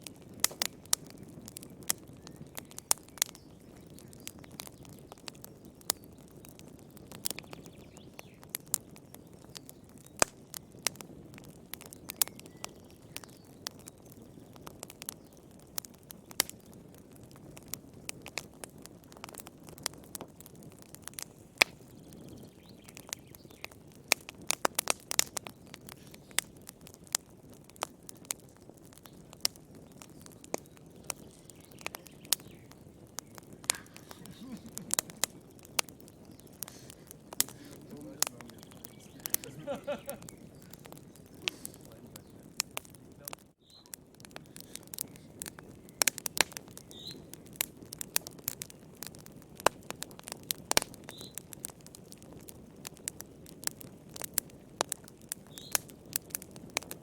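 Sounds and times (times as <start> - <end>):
low rumble of burning: 0.0 - 57.0
wood fire pops and snaps: 0.0 - 57.0.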